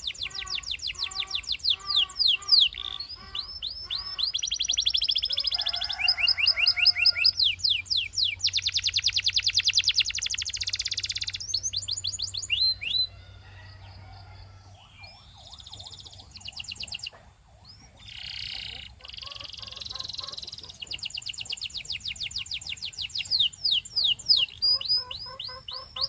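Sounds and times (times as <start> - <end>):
canary singing trills: 0.0 - 13.2, 13.9 - 26.0.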